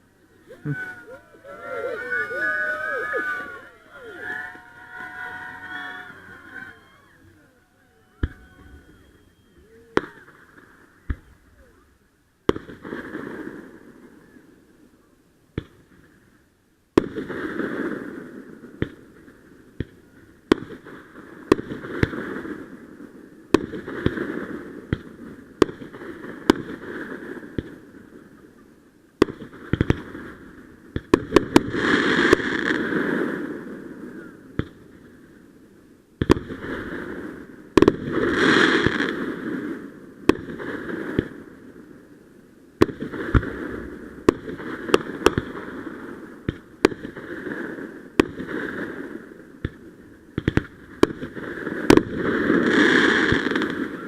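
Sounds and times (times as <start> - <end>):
fireworks bangs: 0.4 - 14.4, 16.9 - 28.6, 29.2 - 35.3, 36.2 - 42.0, 42.8 - 54.0.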